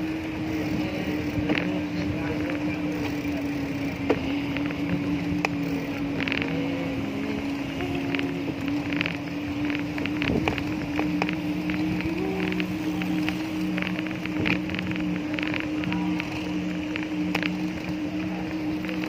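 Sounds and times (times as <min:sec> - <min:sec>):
bicycle rapid ticking: 0:00.0 - 0:19.0
constant hum: 0:00.0 - 0:19.0
road rumble: 0:00.0 - 0:19.0
wind buffeting microphone: 0:00.0 - 0:19.0.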